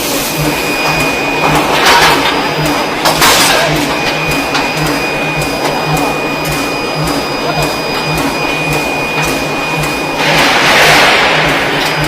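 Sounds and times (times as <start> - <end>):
machinery low beat: 0.0 - 12.0
thin high whine: 0.0 - 12.0.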